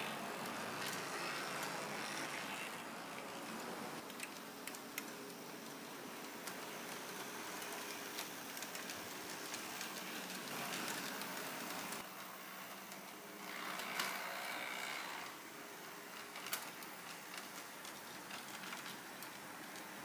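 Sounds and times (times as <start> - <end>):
model streetcars whirring: 0.0 - 20.0.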